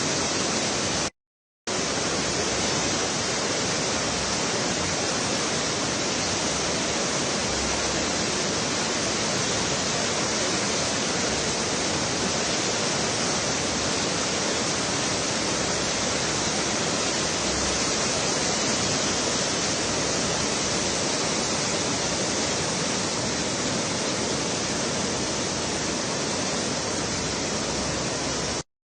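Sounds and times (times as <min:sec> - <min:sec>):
river water rushing: 0:00.0 - 0:01.1, 0:01.7 - 0:28.6.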